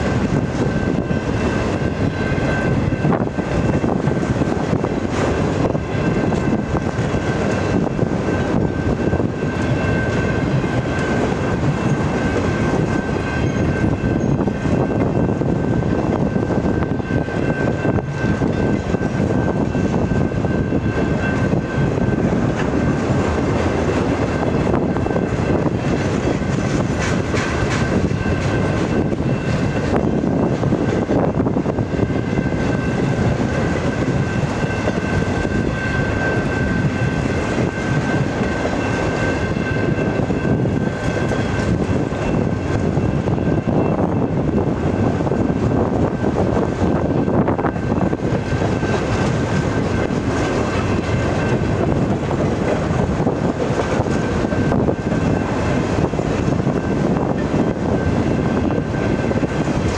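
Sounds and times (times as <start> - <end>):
train wheels rolling on rails: 0.0 - 59.9.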